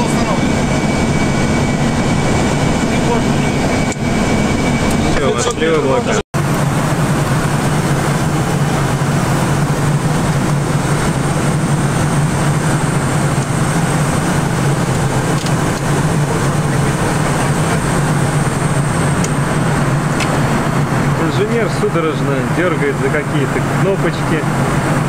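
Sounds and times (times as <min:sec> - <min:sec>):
airliner cockpit rush: 0:00.0 - 0:25.0
low hum: 0:00.0 - 0:25.0.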